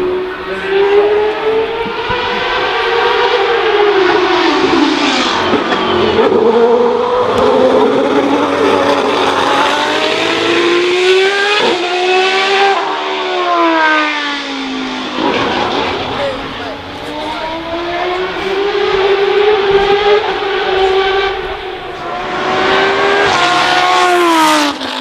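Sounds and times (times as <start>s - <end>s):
racing car engines passing: 0.0s - 25.0s.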